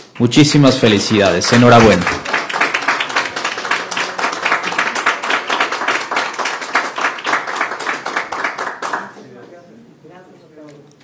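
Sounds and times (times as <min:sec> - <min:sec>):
people clapping: 0:00.0 - 0:09.4.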